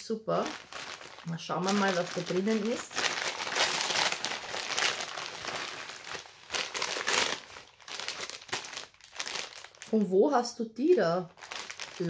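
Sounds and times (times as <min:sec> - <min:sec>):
gift wrapping crinkling: 0:00.0 - 0:10.1, 0:10.8 - 0:12.0.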